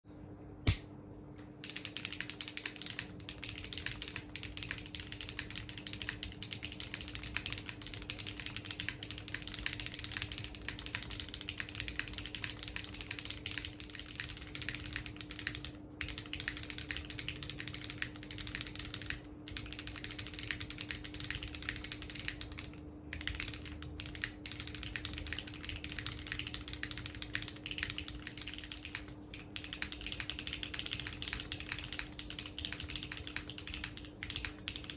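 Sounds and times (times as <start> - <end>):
fast mechanical keyboard typing: 1.6 - 34.9.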